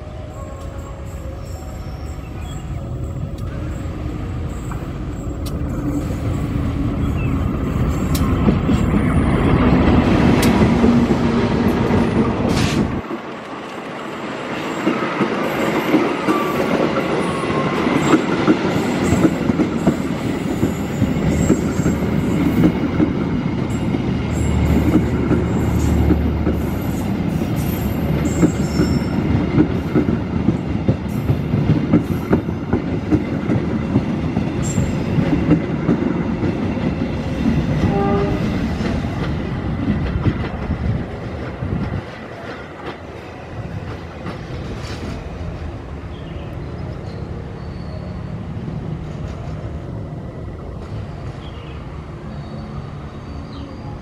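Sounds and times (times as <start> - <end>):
train coaches rumbling past: 0.0 - 54.0.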